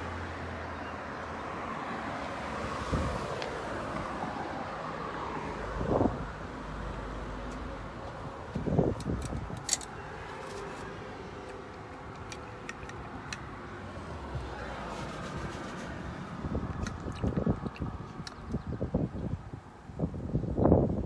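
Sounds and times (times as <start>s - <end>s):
outdoor traffic hum: 0.0s - 21.0s.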